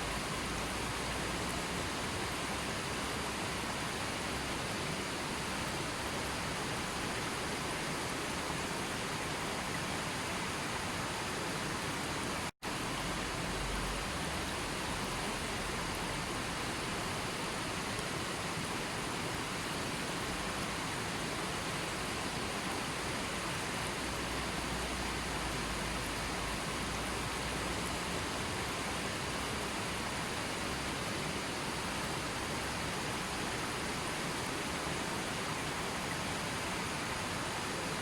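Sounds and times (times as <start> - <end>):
water rushing: 0.0 - 38.0.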